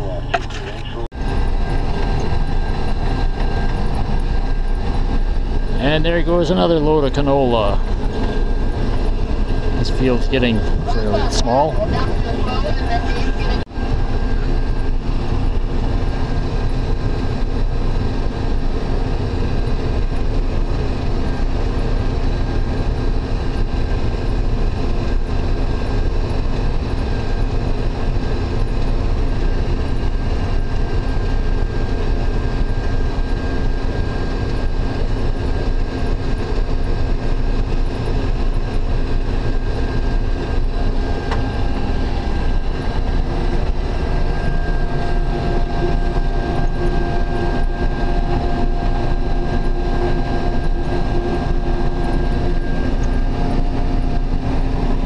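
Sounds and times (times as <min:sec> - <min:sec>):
combine harvester drone: 0:00.0 - 0:55.0
high machine whine: 0:00.0 - 0:55.0.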